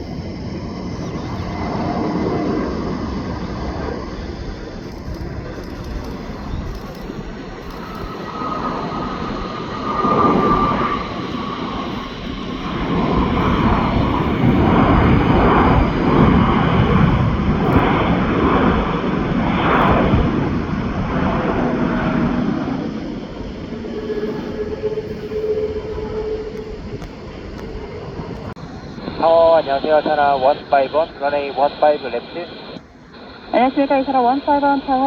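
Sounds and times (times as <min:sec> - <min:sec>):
jet engine whine: 0:00.0 - 0:35.0
jet engines running loud: 0:00.0 - 0:35.0.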